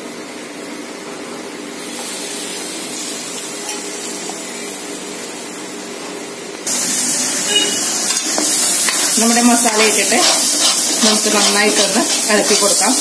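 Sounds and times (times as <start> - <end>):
masala sizzling in a pan: 1.8 - 13.0.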